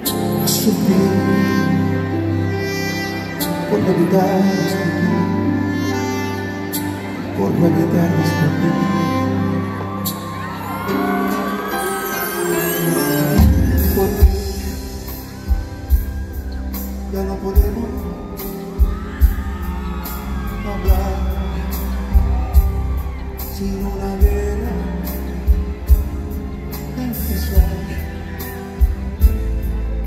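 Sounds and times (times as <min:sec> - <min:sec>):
person singing: 0:00.0 - 0:29.7
live band music: 0:00.0 - 0:30.0.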